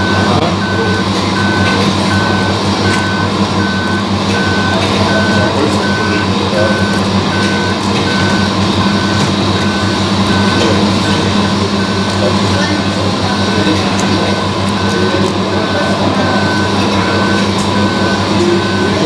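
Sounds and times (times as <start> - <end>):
backup beeper: 0.0 - 19.0
low engine drone: 0.0 - 19.0.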